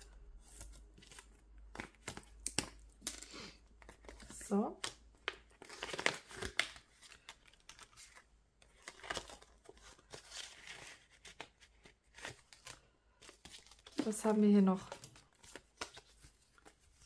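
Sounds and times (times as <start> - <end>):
plastic envelope crinkling: 0.4 - 17.0.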